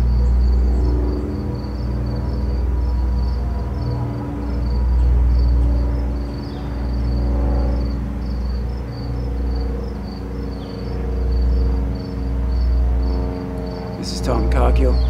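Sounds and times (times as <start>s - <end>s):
ambient drone: 0.0s - 15.0s
insects chirping: 0.0s - 15.0s.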